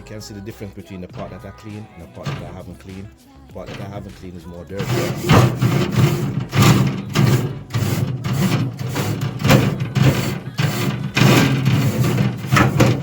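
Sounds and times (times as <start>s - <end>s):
wire brush scrubbing metal grate: 1.0s - 13.0s.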